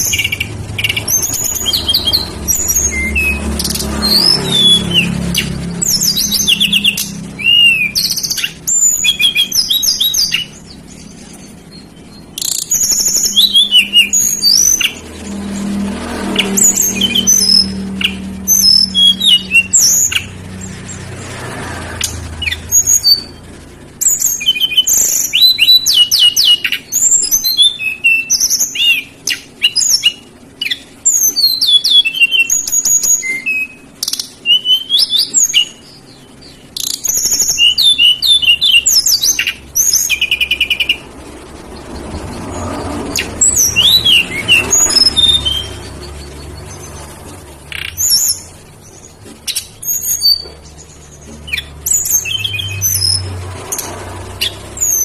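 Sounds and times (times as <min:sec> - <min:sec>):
songbird singing whistles and trills: 0:00.0 - 0:20.7, 0:21.8 - 0:55.0.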